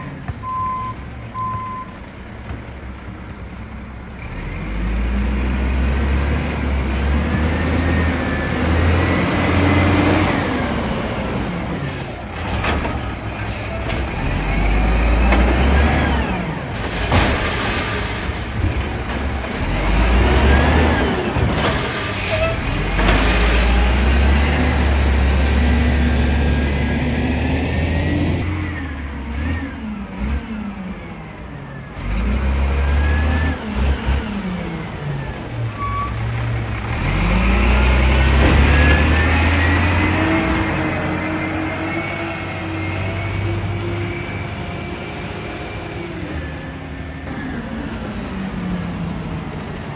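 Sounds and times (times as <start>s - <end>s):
garbage truck engine revving: 4.1s - 49.9s.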